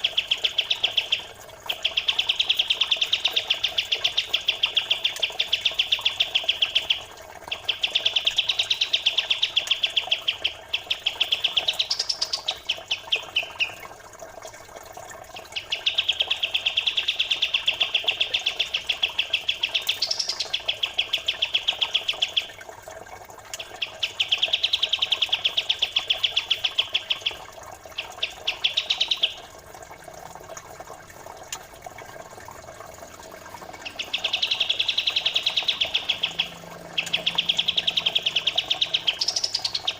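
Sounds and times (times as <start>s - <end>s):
songbird high-pitched chattering song: 0.0s - 13.9s, 15.4s - 22.6s, 23.6s - 29.5s, 33.7s - 39.9s
flowing water trickle: 0.0s - 39.9s.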